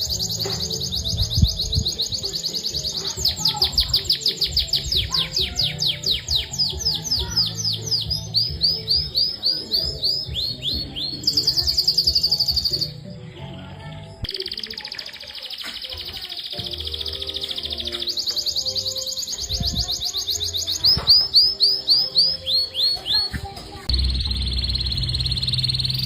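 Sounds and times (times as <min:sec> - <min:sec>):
background music: 0:00.0 - 0:15.0, 0:16.4 - 0:26.0
canary singing: 0:00.0 - 0:26.0
canary trill: 0:00.0 - 0:26.0.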